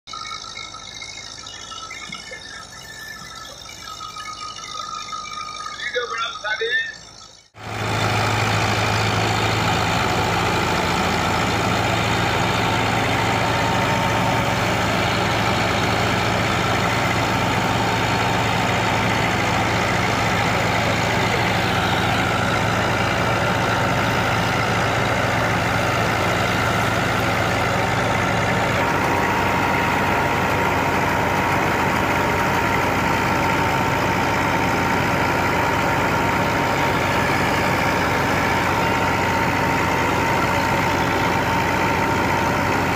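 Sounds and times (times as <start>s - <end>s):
tractor diesel engine running: 0.0s - 42.9s
thresher drum running: 7.6s - 42.9s.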